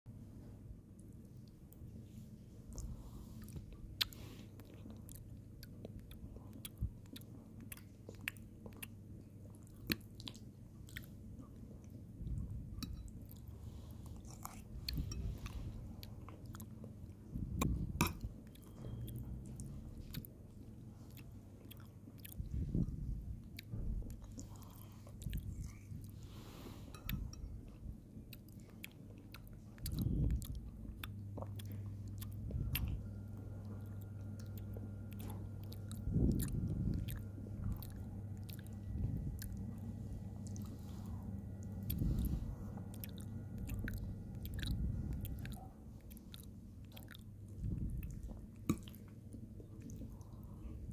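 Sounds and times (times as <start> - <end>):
low steady hum: 0.0 - 50.9
person chewing and mouth sounds: 1.0 - 50.9.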